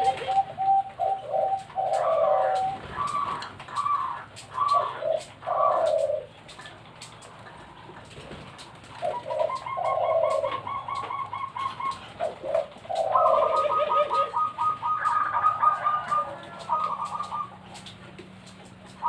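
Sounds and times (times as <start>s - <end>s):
doves cooing: 0.0s - 19.0s.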